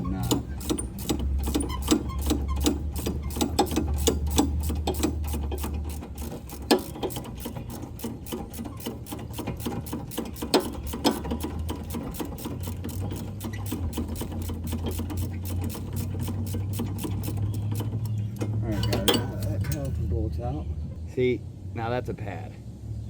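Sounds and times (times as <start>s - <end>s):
ratchet wrench clicking: 0.0s - 20.0s.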